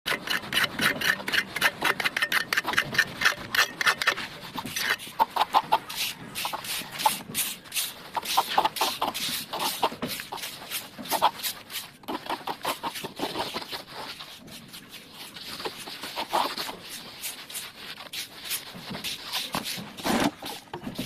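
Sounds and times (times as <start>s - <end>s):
trowel scraping wet plaster: 0.1s - 21.0s.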